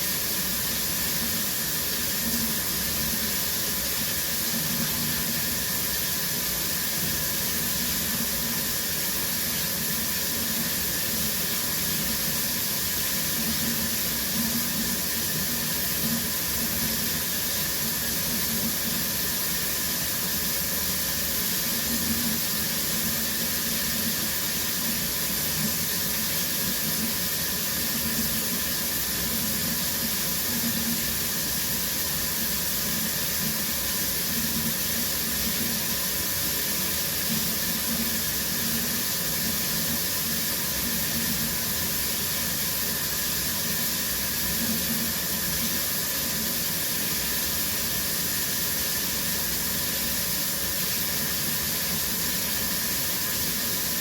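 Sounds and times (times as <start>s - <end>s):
shower spray hissing: 0.0s - 54.0s.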